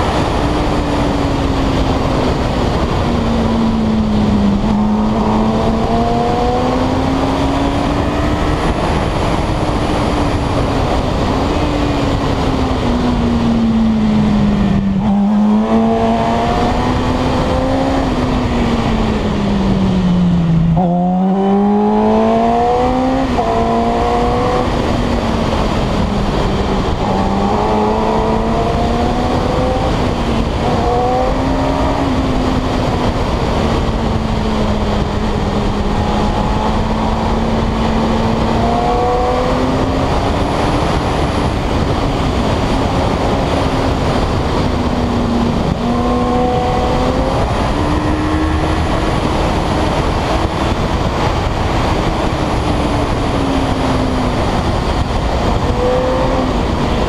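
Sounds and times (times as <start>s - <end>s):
motorcycle engine accelerating: 0.0s - 57.0s
wind rush on microphone: 0.0s - 57.0s.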